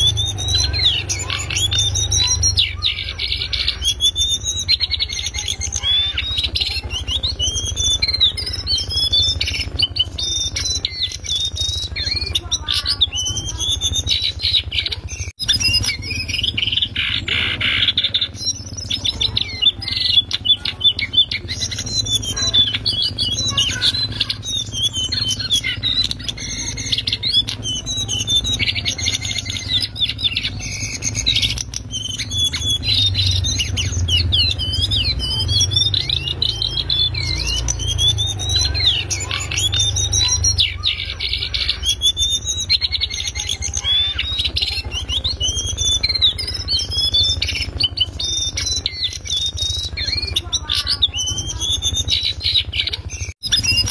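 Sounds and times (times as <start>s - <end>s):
bird twittering song: 0.0s - 53.9s.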